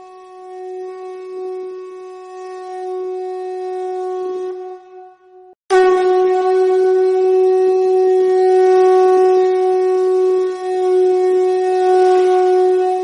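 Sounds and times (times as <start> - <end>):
conch shell blown: 0.0 - 13.0.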